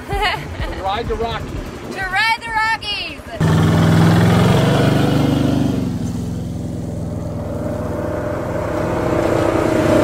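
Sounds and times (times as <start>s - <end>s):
vehicle engines driving on gravel: 0.1s - 10.0s.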